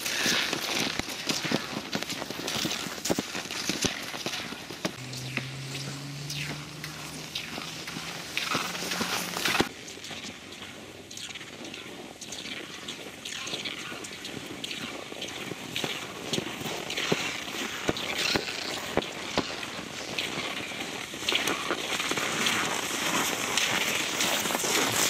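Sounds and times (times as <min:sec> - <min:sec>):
ski poles clicking: 0:00.0 - 0:05.3, 0:06.3 - 0:10.4, 0:11.1 - 0:25.0
skis swishing over frozen snow: 0:00.0 - 0:25.0.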